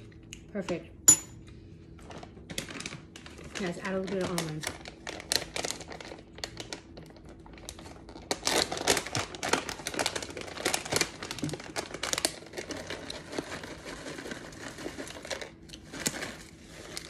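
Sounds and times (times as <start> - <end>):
plastic pouch crinkling: 2.0 - 17.0.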